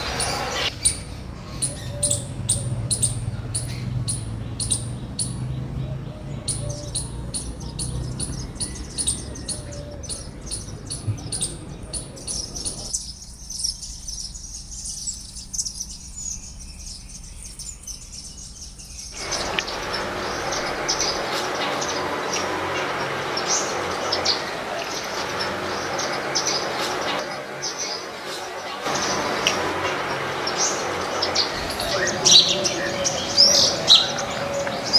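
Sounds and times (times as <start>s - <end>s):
garden birds chirping: 0.0s - 34.9s.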